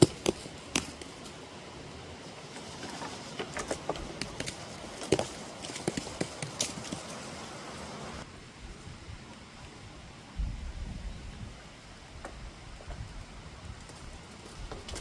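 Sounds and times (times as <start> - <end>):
steady hiss: 0.4 - 15.0.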